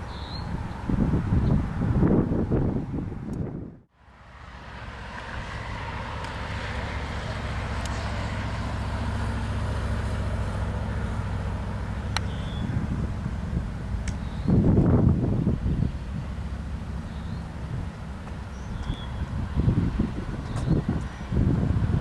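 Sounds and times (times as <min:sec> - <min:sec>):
diesel locomotive engines rumbling: 0:00.0 - 0:22.0.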